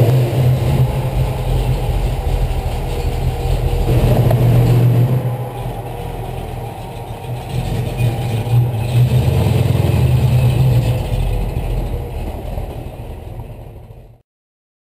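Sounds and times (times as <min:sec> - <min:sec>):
car engine idling: 0:00.0 - 0:14.2.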